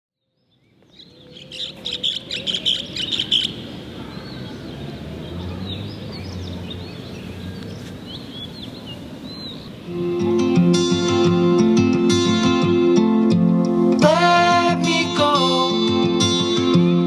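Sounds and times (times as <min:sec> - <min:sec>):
birds chirping: 0:00.2 - 0:17.0.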